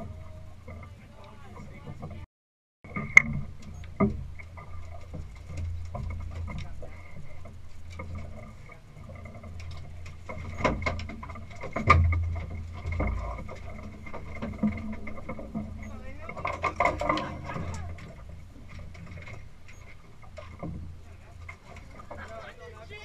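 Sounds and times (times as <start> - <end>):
knocks and clatter on boat deck: 0.0 - 23.0.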